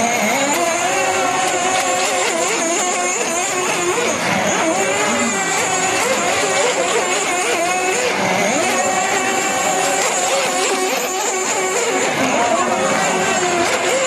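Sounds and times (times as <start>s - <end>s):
model boat engine screaming: 0.0s - 14.0s.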